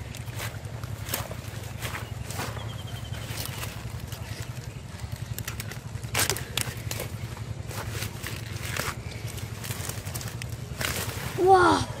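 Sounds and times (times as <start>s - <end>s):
leaves rustling and crackling: 0.0s - 12.0s
steady low hum: 0.0s - 12.0s.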